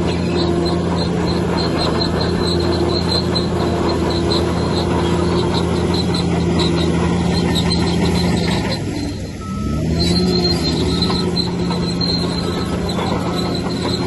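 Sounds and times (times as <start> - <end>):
bulldozer diesel engine running: 0.0 - 14.0
short high squeaks: 0.0 - 14.0.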